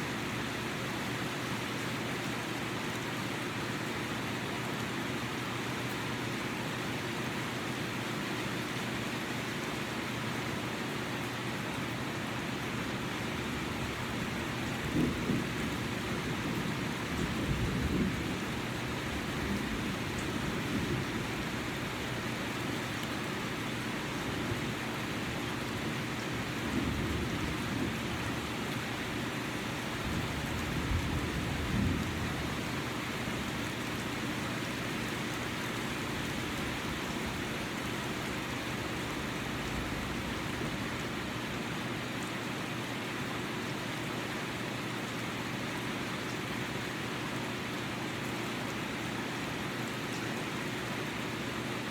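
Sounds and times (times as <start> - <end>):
heavy rain falling: 0.1 - 51.9.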